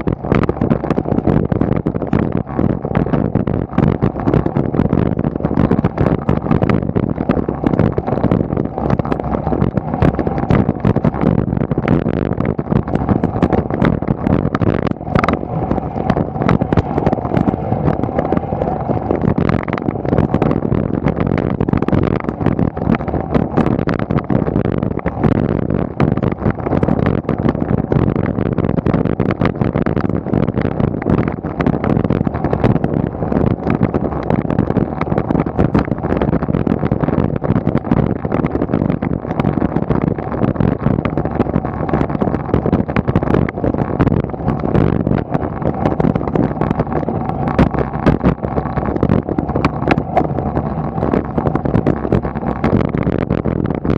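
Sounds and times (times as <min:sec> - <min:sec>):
bicycle rumble and rattling: 0:00.0 - 0:53.9.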